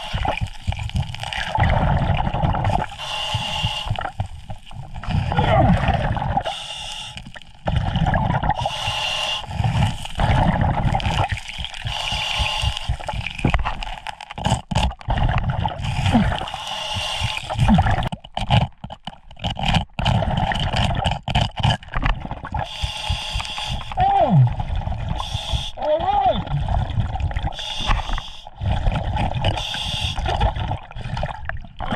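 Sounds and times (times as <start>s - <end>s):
gurgle of exhaled bubbles: 0.0s - 18.8s, 19.4s - 31.9s.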